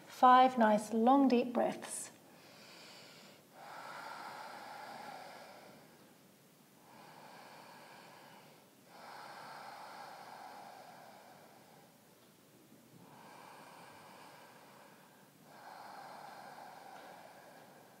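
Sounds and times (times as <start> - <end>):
woman breathing deeply: 2.2 - 18.0.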